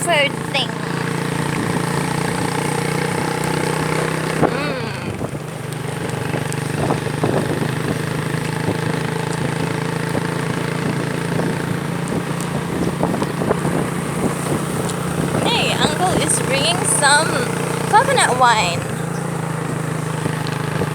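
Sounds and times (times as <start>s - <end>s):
road and wind noise: 0.0s - 20.9s
vehicle engine running: 0.0s - 20.9s.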